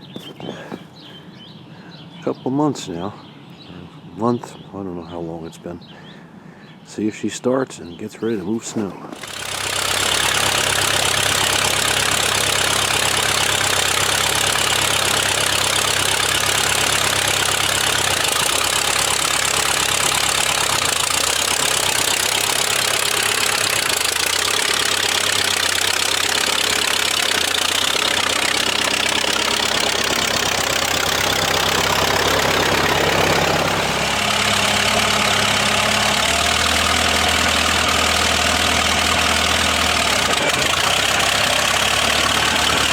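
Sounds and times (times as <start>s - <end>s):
tractor engine running: 0.0s - 1.1s, 8.1s - 42.9s.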